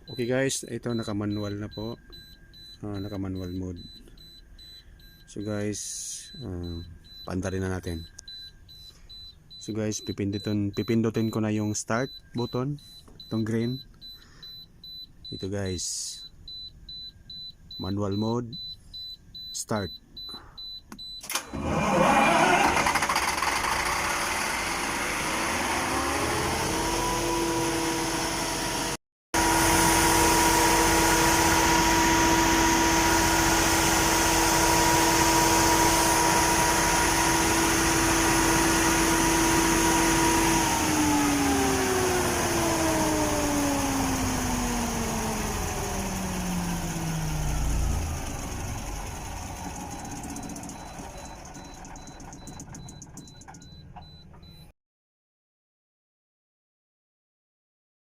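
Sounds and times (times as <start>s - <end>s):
diesel generator engine whine: 0.0s - 54.6s.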